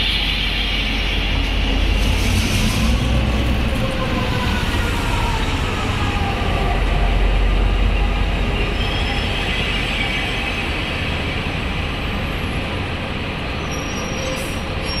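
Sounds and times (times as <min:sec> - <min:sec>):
high squeal of train wheels: 0:00.0 - 0:12.8, 0:13.5 - 0:15.0
train wheels rumbling on rails: 0:00.0 - 0:15.0.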